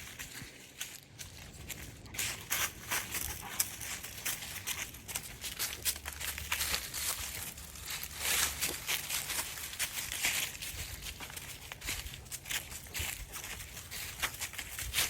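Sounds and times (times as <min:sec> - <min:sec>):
footsteps crunching on ground: 0:00.0 - 0:15.0.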